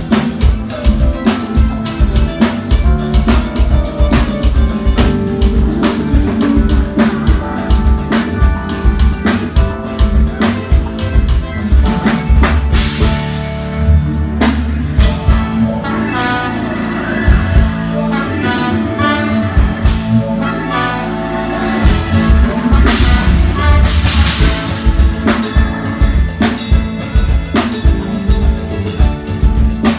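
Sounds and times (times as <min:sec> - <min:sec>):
band playing: 0:00.0 - 0:29.9
drum kit hits: 0:00.0 - 0:29.9.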